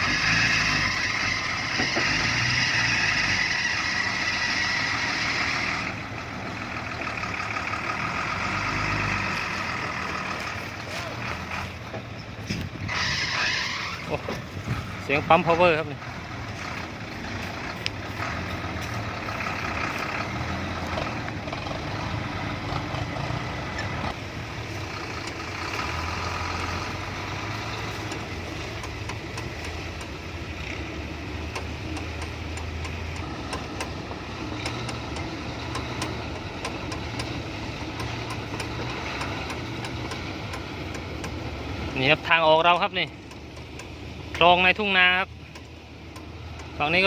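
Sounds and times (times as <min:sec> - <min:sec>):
power steering pump whining: 0:00.0 - 0:47.0
truck diesel engine under load: 0:00.0 - 0:47.0.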